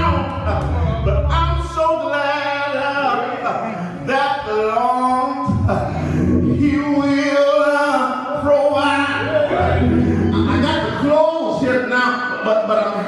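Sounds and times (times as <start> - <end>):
man chanting sung sermon: 0.0 - 13.0.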